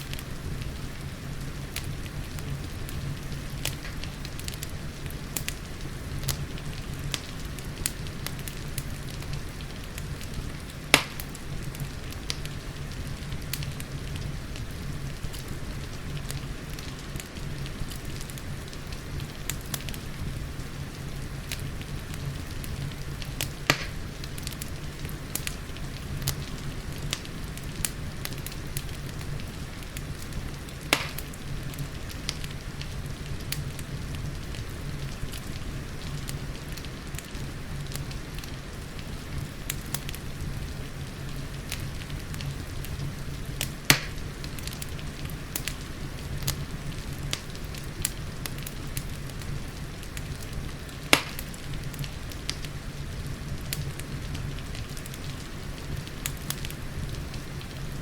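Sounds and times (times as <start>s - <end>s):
fire popping: 0.0s - 58.0s
rain pattering: 0.0s - 58.0s
wood fire crackling: 0.0s - 58.0s.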